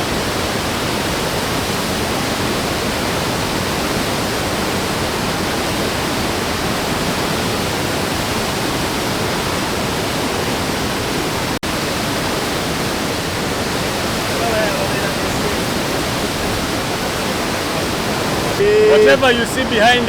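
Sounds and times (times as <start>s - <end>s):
rush of falling water: 0.0s - 20.0s.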